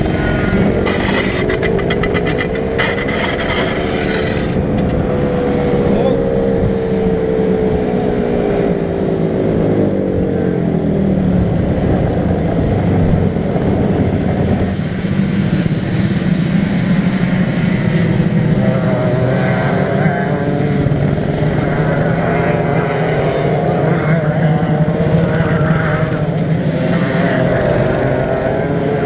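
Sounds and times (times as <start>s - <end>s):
go-kart engines: 0.0s - 29.0s
wind rumble on microphone: 0.0s - 29.0s.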